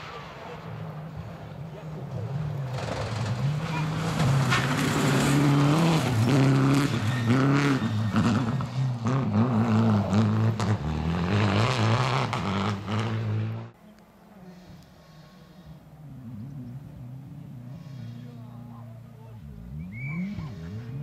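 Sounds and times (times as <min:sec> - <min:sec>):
rally car engine revving: 0:00.0 - 0:13.8, 0:15.1 - 0:21.0.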